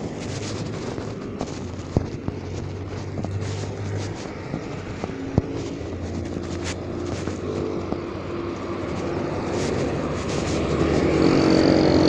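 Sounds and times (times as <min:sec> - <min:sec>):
motorcycle engine passing: 0:00.0 - 0:12.0.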